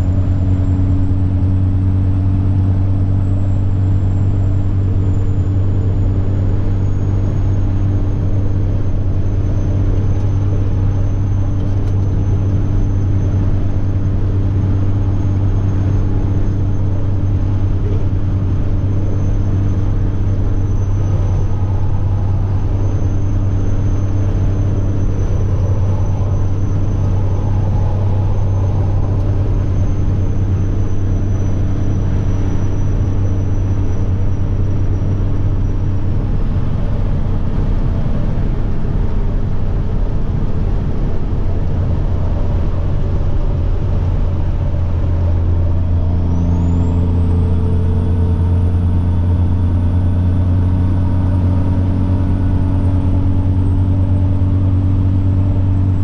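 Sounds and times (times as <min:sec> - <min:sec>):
truck diesel engine droning: 0:00.0 - 0:56.0
turbocharger whine: 0:00.0 - 0:56.0.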